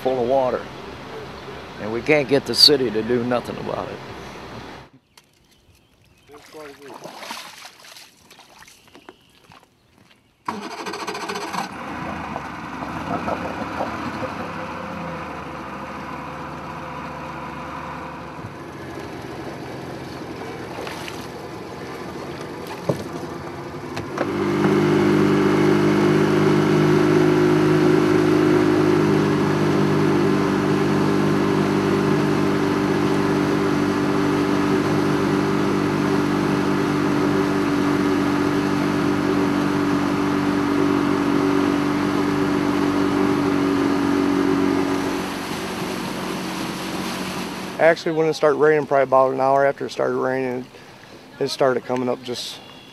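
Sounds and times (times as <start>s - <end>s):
outboard motor running: 0.0s - 4.9s, 10.5s - 52.9s.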